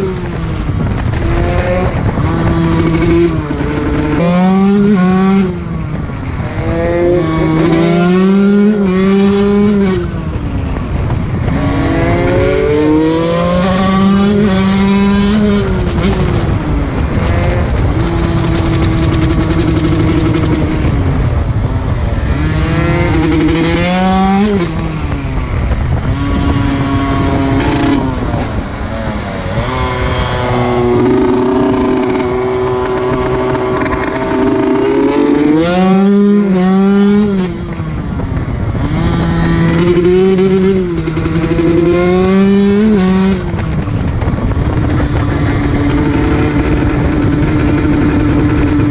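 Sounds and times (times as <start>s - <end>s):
two-stroke dirt bike engine revving: 1.0s - 5.7s, 6.4s - 10.2s, 11.5s - 21.0s, 22.2s - 48.9s.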